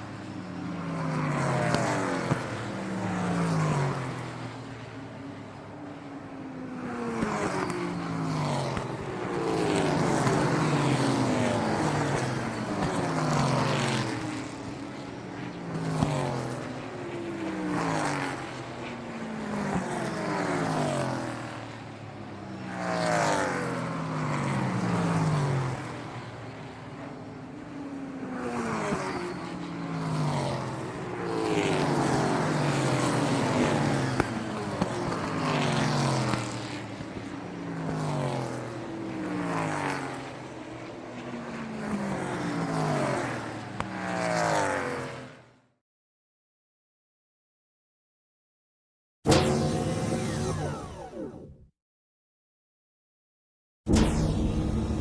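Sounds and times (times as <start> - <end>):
car engines passing: 0.0 - 45.5.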